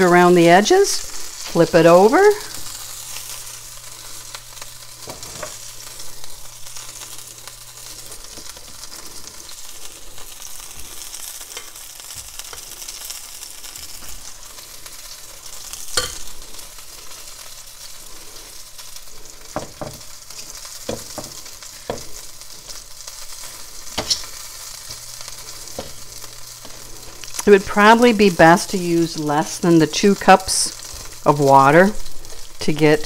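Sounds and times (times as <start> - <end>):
oil sizzling and crackling: 0.0 - 33.0.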